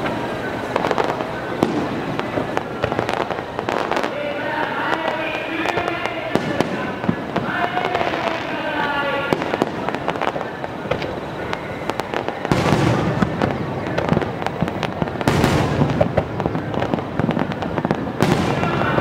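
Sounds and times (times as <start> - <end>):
firework bangs and crackles: 0.0 - 19.0
heavy firework booms: 0.0 - 19.0.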